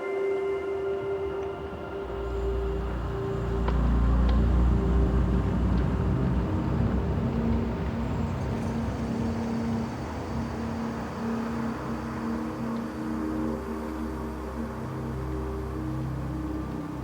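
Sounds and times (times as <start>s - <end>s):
soft low drone notes: 0.0s - 17.0s.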